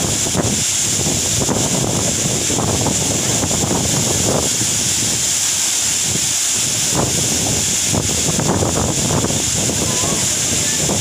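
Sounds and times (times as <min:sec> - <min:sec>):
waterfall rushing and splashing: 0:00.0 - 0:11.0.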